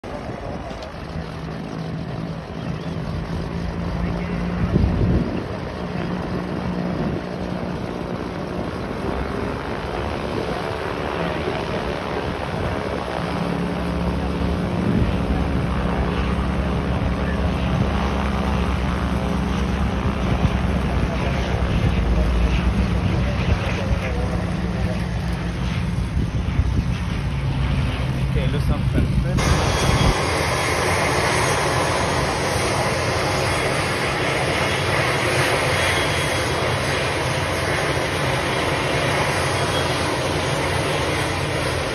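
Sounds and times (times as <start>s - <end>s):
turboprop airliner drone: 0.0s - 41.9s
wind buffeting microphone: 3.8s - 39.4s.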